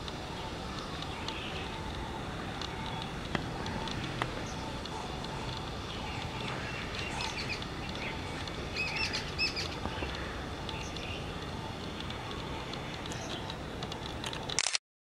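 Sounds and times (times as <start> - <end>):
small birds chirping: 0.0 - 14.3
steady outdoor hiss: 0.0 - 14.8.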